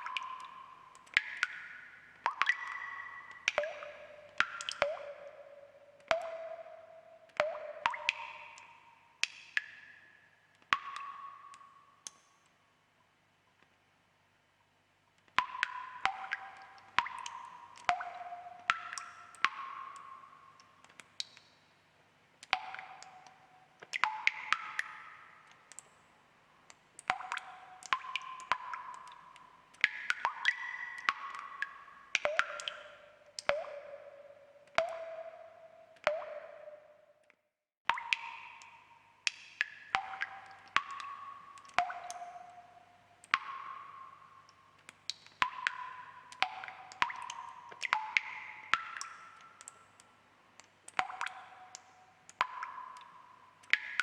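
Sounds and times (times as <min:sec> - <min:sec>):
water drops plinking into water: 0:00.0 - 0:13.8, 0:14.5 - 0:21.6, 0:22.4 - 0:54.0.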